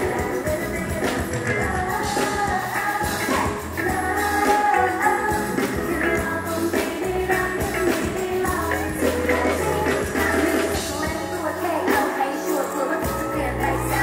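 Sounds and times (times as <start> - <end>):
person singing: 0.0 - 14.0
pop dance music: 0.0 - 14.0.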